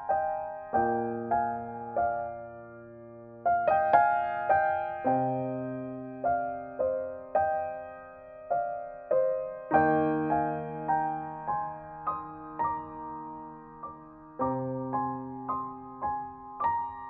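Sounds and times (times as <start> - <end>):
gentle solo piano piece: 0.0 - 17.0.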